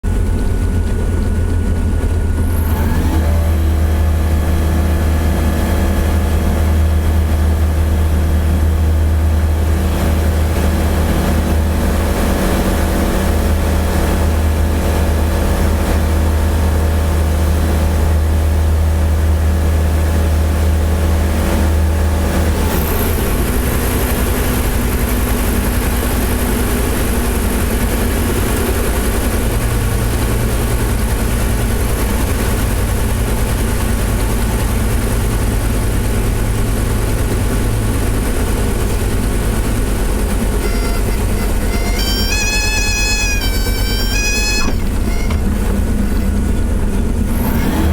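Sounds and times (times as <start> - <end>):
aircraft engine at full power: 0.0 - 47.9.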